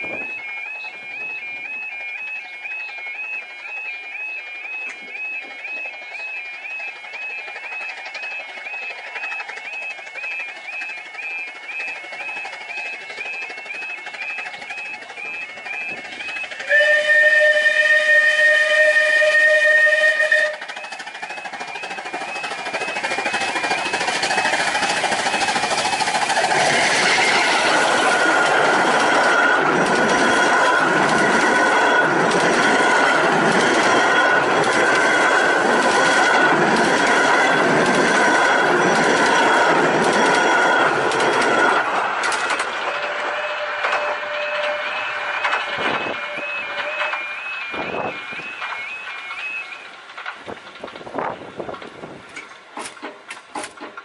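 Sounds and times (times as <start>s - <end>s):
steam locomotive whistle: 0.0s - 37.8s, 40.4s - 49.9s
level-crossing alarm warbling: 0.0s - 50.3s
train rumble: 0.0s - 54.0s
wheels clicking over rail joints: 0.0s - 54.0s.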